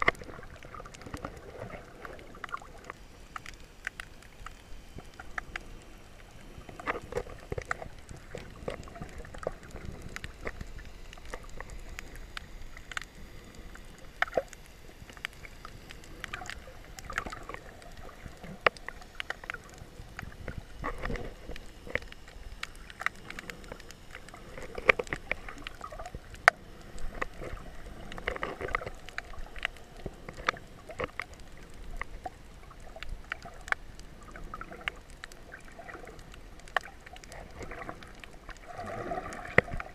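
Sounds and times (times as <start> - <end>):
gurgling water swells: 0.0 - 39.9
muffled underwater wash: 0.0 - 39.9
sharp underwater clicks: 0.0 - 39.9.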